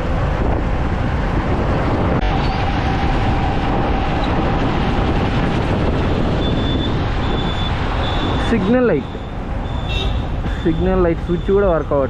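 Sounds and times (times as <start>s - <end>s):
road traffic: 0.0s - 12.0s
wind rumbling on microphone: 0.0s - 12.0s.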